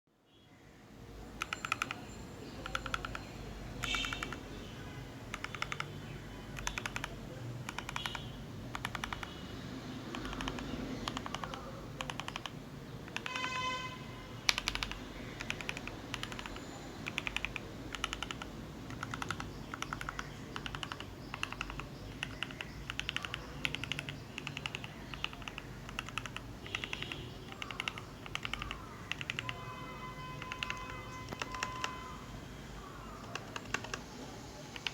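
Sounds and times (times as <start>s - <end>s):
mechanical keyboard typing: 1.4s - 4.5s, 5.3s - 9.4s, 10.1s - 13.7s, 14.4s - 29.7s, 30.4s - 32.2s, 33.1s - 34.9s.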